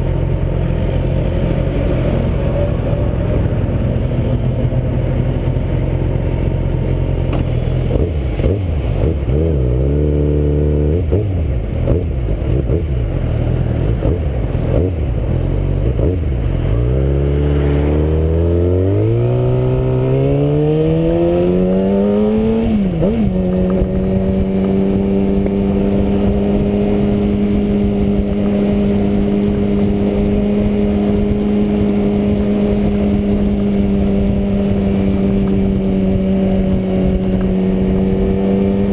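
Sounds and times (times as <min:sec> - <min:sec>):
wind rush: 0:00.0 - 0:09.4, 0:13.1 - 0:38.9
motorcycle engine revving: 0:00.0 - 0:38.9.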